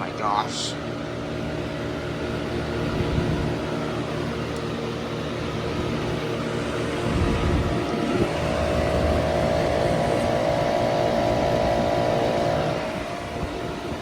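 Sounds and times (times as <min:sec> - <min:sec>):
heat pump humming: 0:00.0 - 0:14.0.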